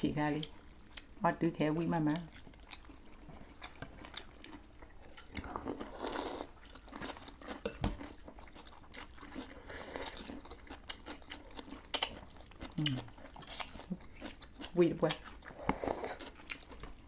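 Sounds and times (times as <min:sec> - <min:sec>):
chewing and crunching food: 0:00.3 - 0:17.0.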